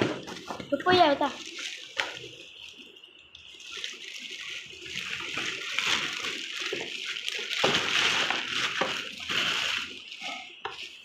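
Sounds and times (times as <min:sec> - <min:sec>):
water running: 0:00.6 - 0:11.0.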